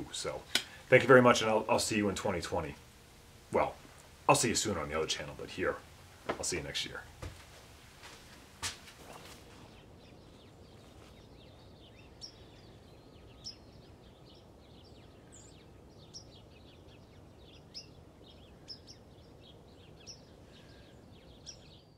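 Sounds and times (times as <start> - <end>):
small birds chirping: 0.0 - 7.4, 8.0 - 21.9
low background noise: 0.0 - 21.9.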